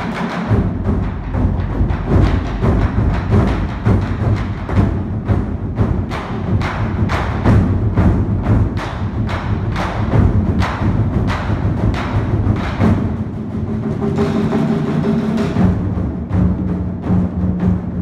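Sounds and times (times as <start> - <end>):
large drums beating: 0.0 - 18.0.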